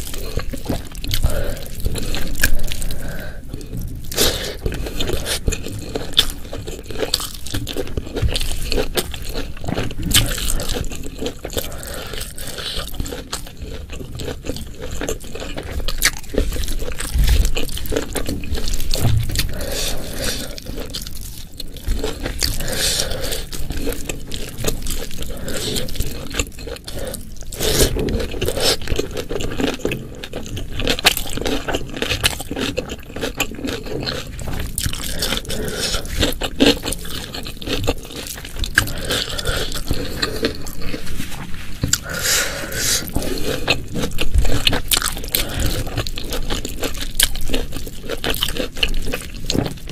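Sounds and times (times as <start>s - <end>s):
wet chewing with crunches: 0.0s - 49.9s.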